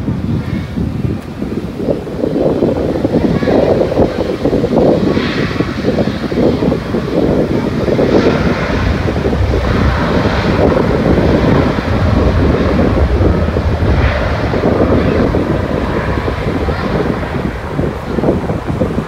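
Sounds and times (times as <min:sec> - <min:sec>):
distant jet engines roaring: 0:00.0 - 0:19.0
wind buffeting microphone: 0:00.0 - 0:19.0.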